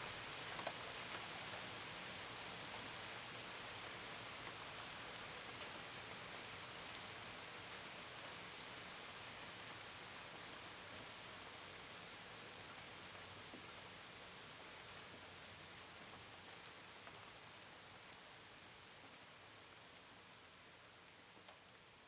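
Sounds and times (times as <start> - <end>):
gentle rain: 0.0 - 22.0.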